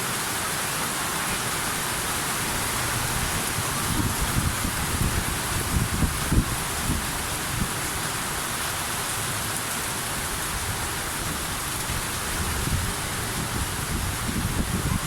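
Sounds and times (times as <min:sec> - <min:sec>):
steady rain hissing: 0:00.0 - 0:15.0.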